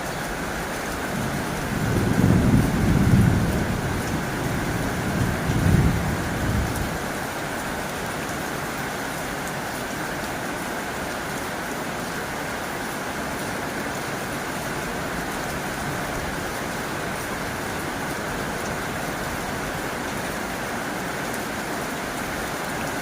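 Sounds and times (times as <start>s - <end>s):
heavy rain on a tin roof: 0.0s - 23.0s.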